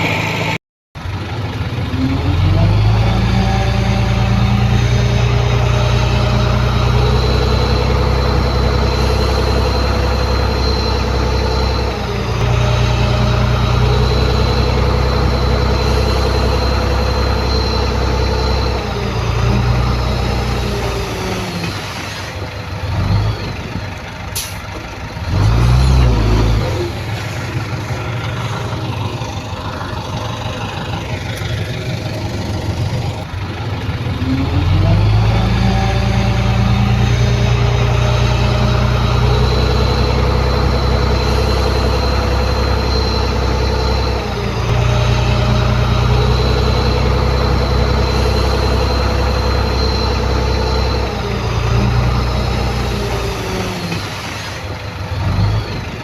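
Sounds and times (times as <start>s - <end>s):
diesel machinery engine running: 0.0s - 56.0s
engine revving: 1.2s - 23.7s, 24.3s - 56.0s
high whine: 2.2s - 23.8s, 25.4s - 56.0s.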